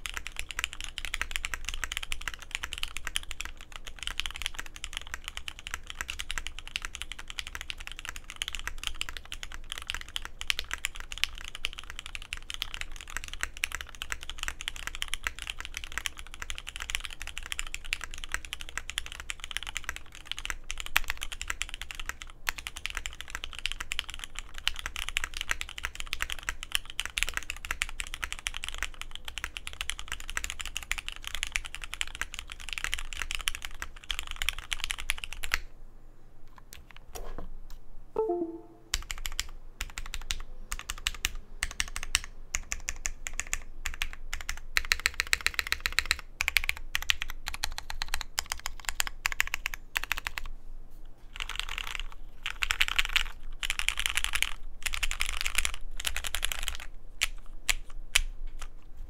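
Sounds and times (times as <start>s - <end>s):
mechanical keyboard typing: 0.0s - 35.7s, 38.2s - 50.5s, 51.4s - 58.7s.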